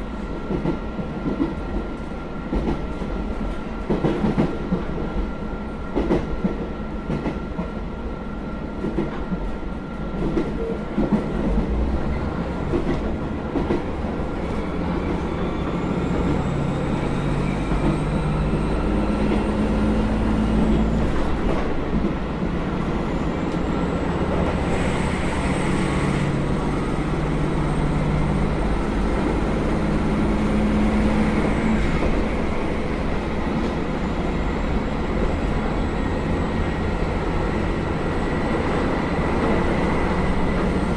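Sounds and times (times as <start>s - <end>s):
rail joint clicks: 0.0s - 7.8s, 8.8s - 40.9s
train wheels rumbling: 0.0s - 40.9s.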